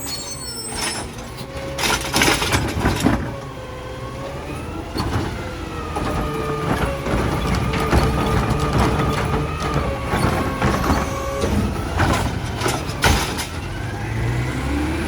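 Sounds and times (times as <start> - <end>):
arm and bin clanking: 0.0 - 3.6, 4.6 - 14.4
garbage truck engine and hydraulics: 0.0 - 15.0.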